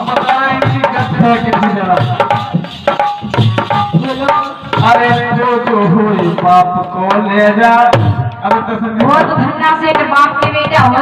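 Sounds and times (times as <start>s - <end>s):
hand drum rhythm: 0.0s - 11.0s.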